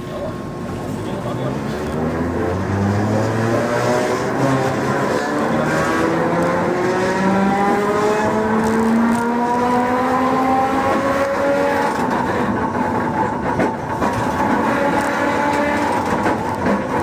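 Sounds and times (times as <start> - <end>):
streetcar motor whine: 0.0 - 17.0
streetcar running rumble: 0.0 - 17.0.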